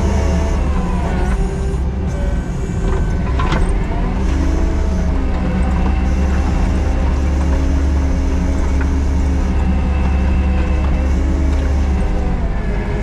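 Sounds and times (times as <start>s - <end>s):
diesel loader engine running: 0.0s - 13.0s.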